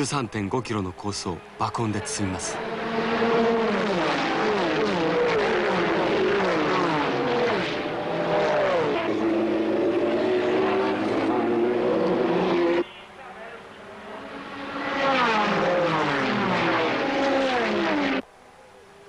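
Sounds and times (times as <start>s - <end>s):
race car engines roaring: 0.0s - 18.3s.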